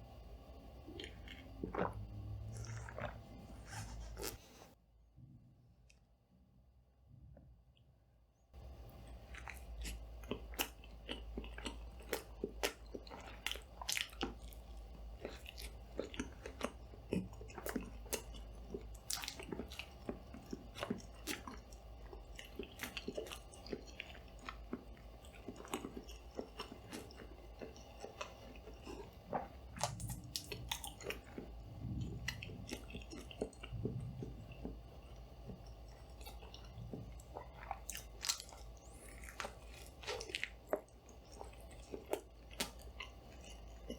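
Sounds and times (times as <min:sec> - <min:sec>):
crunching and chewing: 0:00.8 - 0:04.8, 0:08.6 - 0:43.9.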